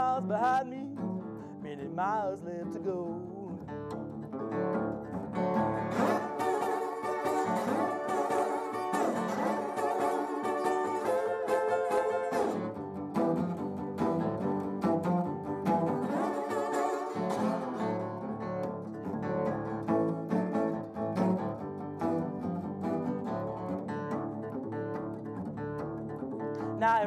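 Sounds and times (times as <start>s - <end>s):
acoustic guitar blues picking: 0.0s - 27.0s.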